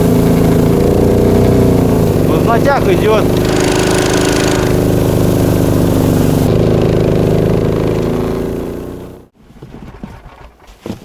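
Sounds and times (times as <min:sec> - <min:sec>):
snow pusher engine running: 0:00.0 - 0:09.3.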